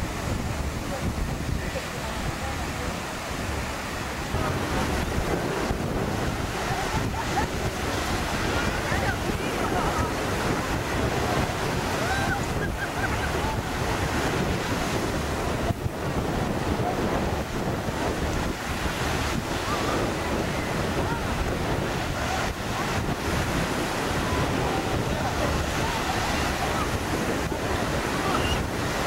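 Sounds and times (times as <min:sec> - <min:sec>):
waves breaking on shore: 0:00.0 - 0:29.0
wind buffeting microphone: 0:00.0 - 0:29.0.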